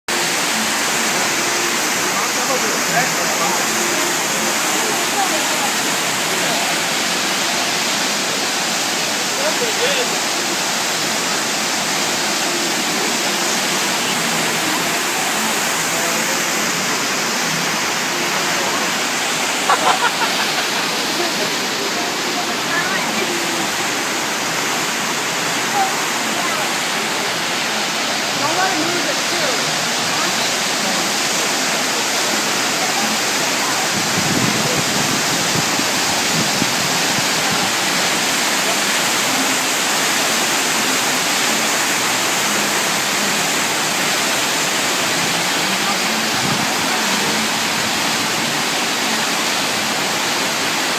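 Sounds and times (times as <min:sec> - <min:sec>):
waterfall pouring: 0:00.1 - 0:50.9.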